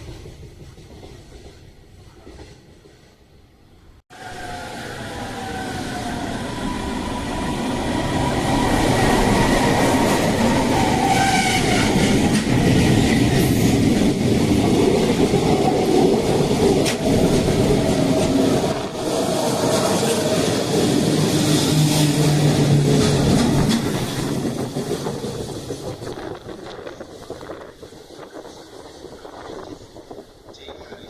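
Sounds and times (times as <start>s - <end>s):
freight train passing: 0.0s - 31.0s.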